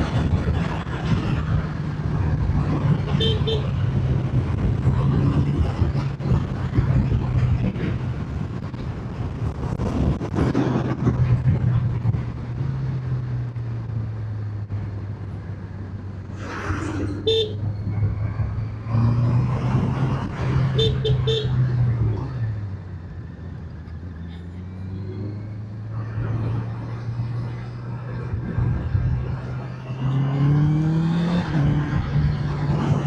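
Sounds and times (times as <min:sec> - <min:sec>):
wind rush on microphone: 0:00.0 - 0:23.9, 0:25.2 - 0:33.0.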